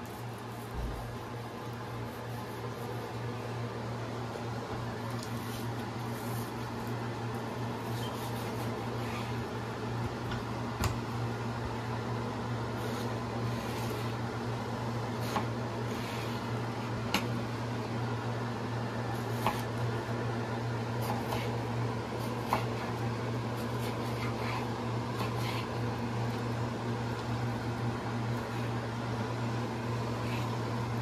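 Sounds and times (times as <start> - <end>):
fan or motor humming: 0.0 - 31.0.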